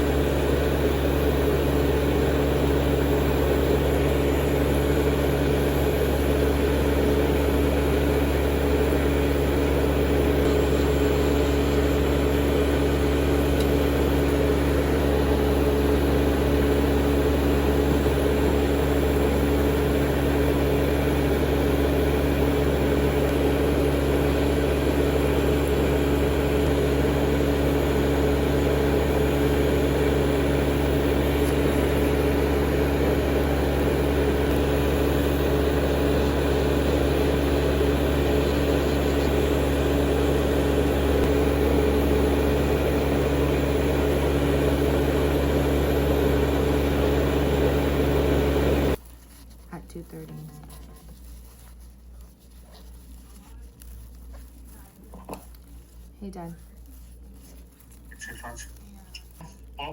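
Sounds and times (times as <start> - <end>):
nail file motor whirring: 0.0 - 49.0
dust-collector fan: 0.0 - 59.9.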